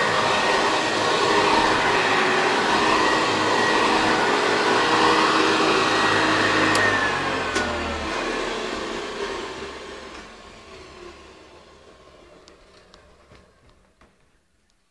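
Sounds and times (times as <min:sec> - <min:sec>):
vacuum cleaner motor whine: 0:00.0 - 0:14.4.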